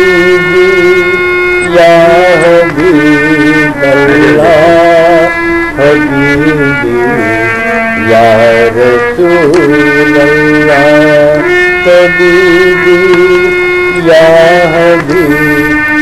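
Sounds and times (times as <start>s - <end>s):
harmonium playing chords: 0.0s - 16.0s
man singing: 0.0s - 16.0s.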